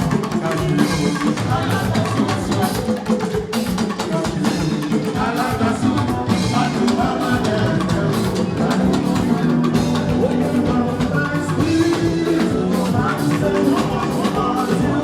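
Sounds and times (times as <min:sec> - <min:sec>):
drums: 0:00.0 - 0:15.0
guitar: 0:00.0 - 0:15.0
live band music: 0:00.0 - 0:15.0
person singing: 0:00.0 - 0:15.0.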